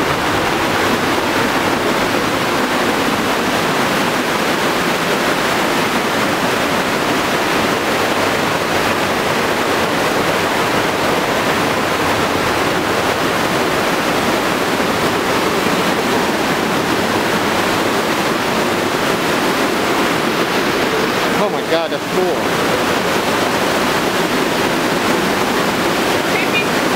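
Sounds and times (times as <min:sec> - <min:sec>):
river torrent rushing: 0:00.0 - 0:26.9.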